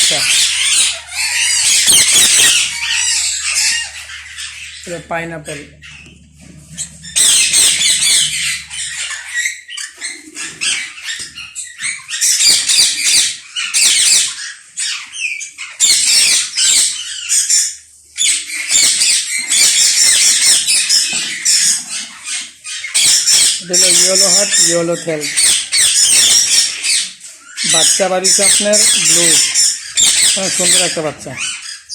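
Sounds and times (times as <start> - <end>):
parakeets screeching: 0.0 - 31.9.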